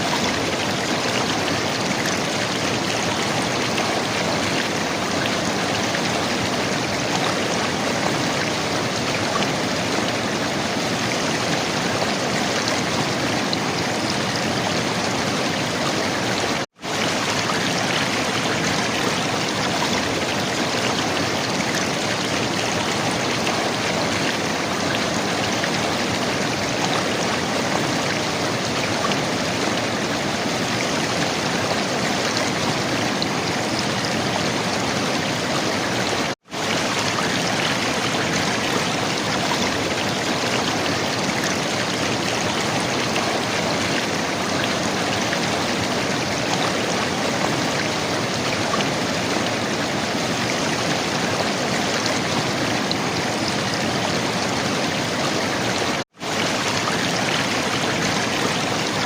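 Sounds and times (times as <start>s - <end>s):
river water flowing and gurgling: 0.0s - 59.0s.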